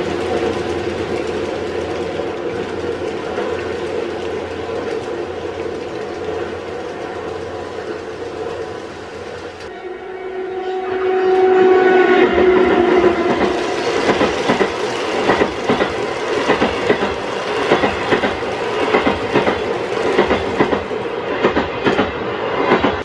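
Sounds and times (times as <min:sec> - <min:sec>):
model train wheels clicking: 0:00.0 - 0:09.7, 0:12.6 - 0:23.0
steady whine: 0:00.0 - 0:21.4.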